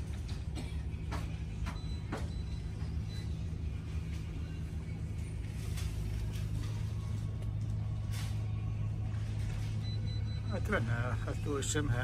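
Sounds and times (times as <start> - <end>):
low shop hum: 0.0 - 12.0.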